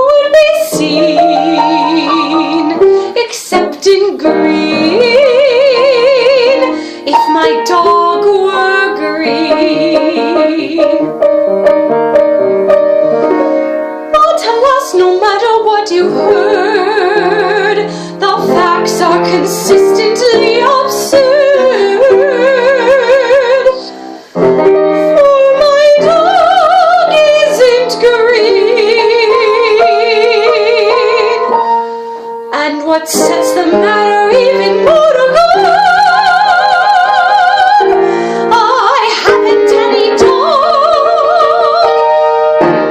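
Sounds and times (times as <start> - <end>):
woman singing classically: 0.0 - 11.1, 14.2 - 24.0, 25.2 - 31.6, 32.5 - 42.1
piano: 0.0 - 42.9.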